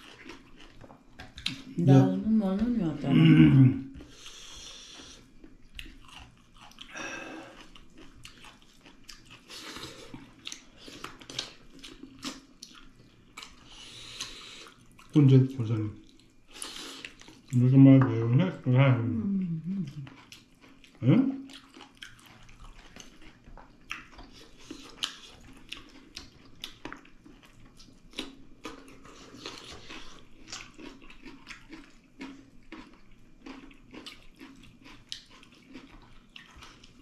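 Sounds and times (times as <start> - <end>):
chewing and lip-smacking: 0.0 - 1.8, 4.0 - 15.2, 16.0 - 17.6, 19.6 - 37.0.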